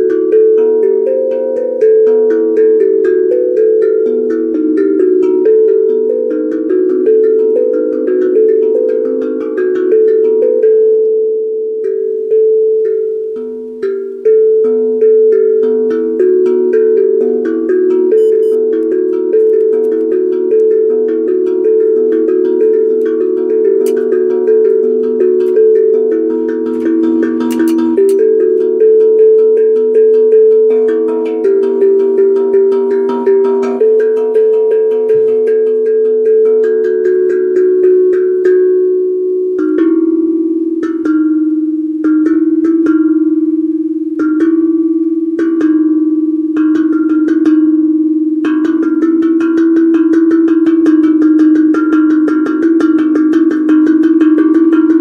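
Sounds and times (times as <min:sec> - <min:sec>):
tuned percussion melody: 0:00.0 - 0:55.0.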